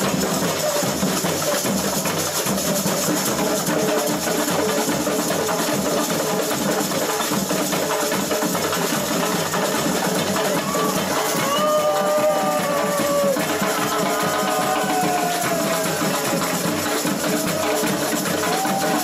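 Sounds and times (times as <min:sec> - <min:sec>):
samba drums and percussion: 0:00.0 - 0:19.0.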